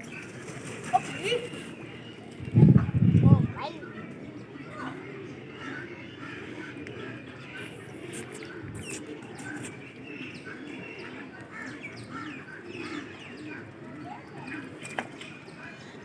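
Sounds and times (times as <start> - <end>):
caged birds chirping: 0.0 - 16.0.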